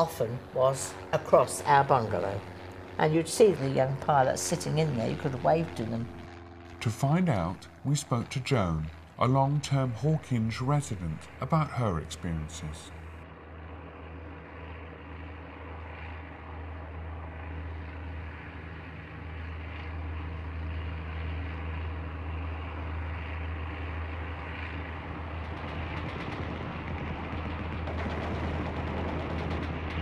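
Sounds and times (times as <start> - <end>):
bomber aircraft engines droning: 0.0 - 30.0.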